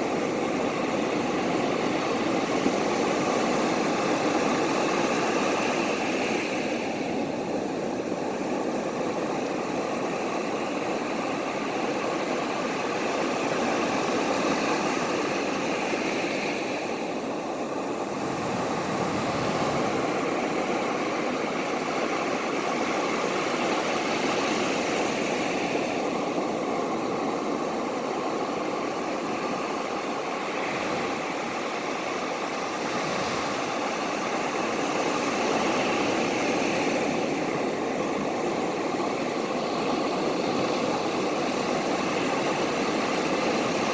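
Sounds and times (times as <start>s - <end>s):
ocean waves washing: 0.0s - 43.9s.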